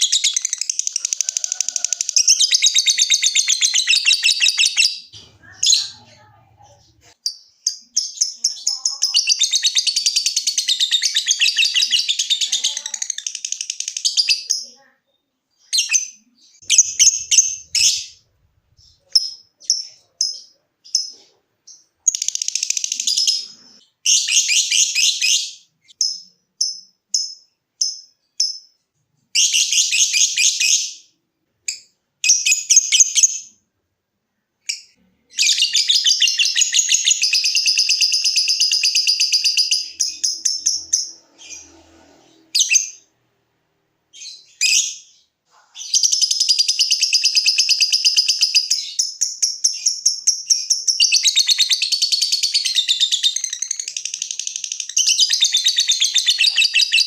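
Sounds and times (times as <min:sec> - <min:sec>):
lovebird chirping and chattering: 0:00.0 - 0:33.6, 0:34.6 - 0:43.1, 0:44.1 - 0:57.0.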